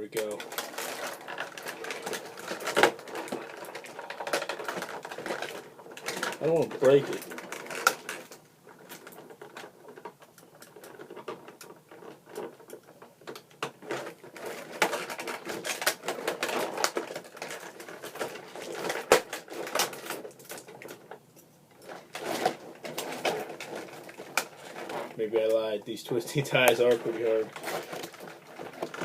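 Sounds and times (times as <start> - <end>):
plastic packaging rustling: 0.0 - 29.0.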